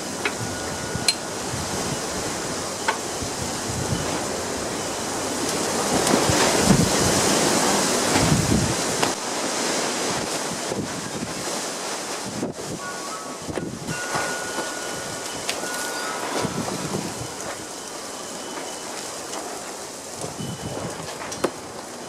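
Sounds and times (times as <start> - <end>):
wind gusting over microphone: 0.0 - 22.0.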